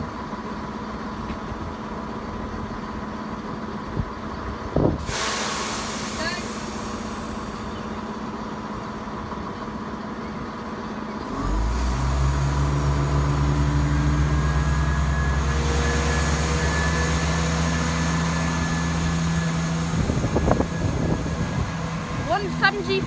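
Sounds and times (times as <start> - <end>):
diesel train engine drone: 0.0 - 23.0.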